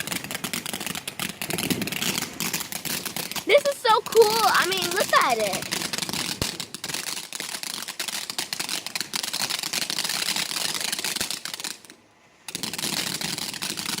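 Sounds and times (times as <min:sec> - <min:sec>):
firework fizzing and crackling: 0:00.0 - 0:14.0.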